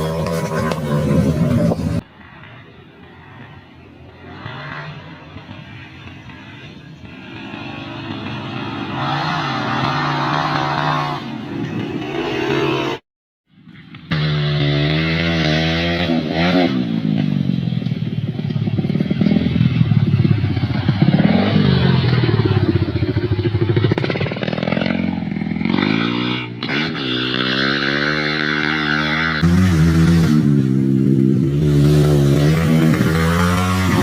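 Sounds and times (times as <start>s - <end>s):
dirt bike engine revving: 0.0s - 13.0s, 13.6s - 34.0s.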